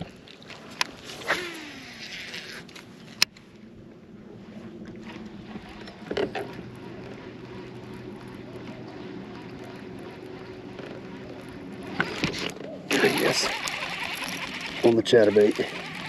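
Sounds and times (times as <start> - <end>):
steady low hum: 0.0 - 16.0
fishing reel spool whirring: 0.7 - 16.0.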